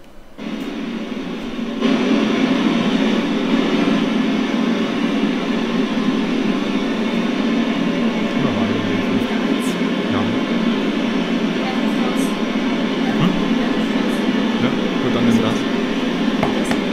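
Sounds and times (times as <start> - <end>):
radio static hiss: 0.4 - 16.9.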